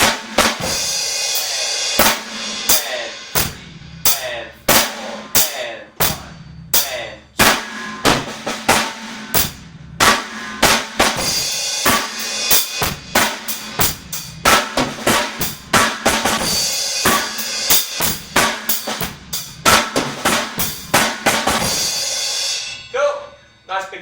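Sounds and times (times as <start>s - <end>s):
snare drum fill: 0.0s - 21.8s
bass drum: 0.0s - 22.0s
hi-hat: 0.0s - 22.8s.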